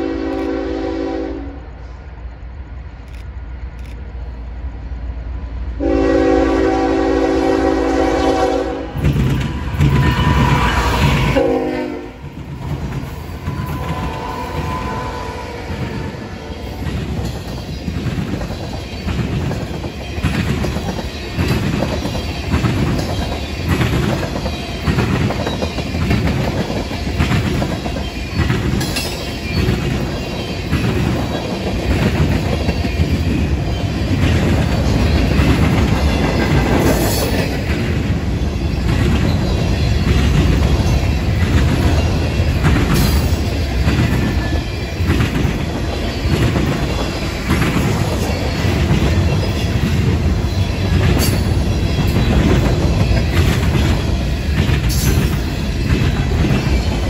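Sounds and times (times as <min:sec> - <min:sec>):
train wheels rumbling on rail: 0:00.0 - 0:57.0
clickety-clack over rail joints: 0:07.4 - 0:57.0.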